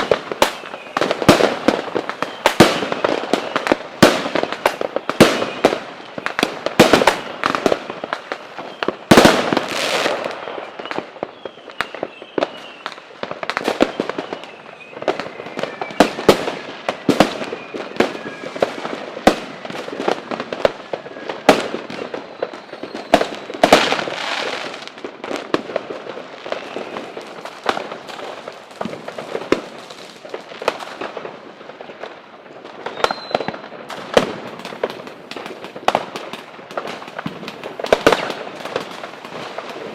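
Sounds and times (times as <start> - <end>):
firework shells whistling: 0.0 - 20.1, 20.9 - 24.9, 26.5 - 29.7, 32.8 - 39.9
fireworks bangs and crackling: 0.0 - 39.9.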